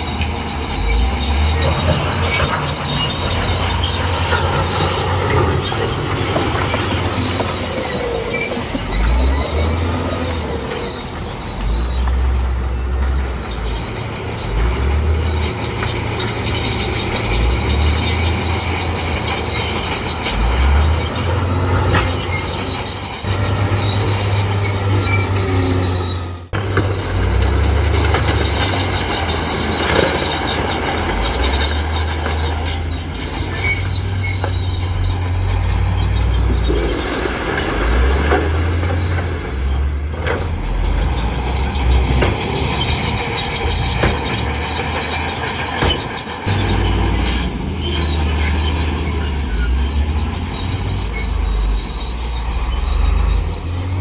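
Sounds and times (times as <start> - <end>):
bulldozer diesel engine under load: 0.0 - 54.0
steel tracks squealing: 0.0 - 54.0.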